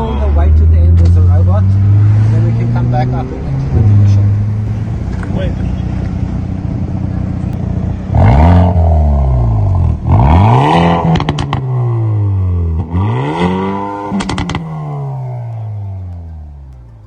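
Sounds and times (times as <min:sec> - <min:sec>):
car engine accelerating: 0:00.4 - 0:17.0
exhaust cracks: 0:00.8 - 0:17.0.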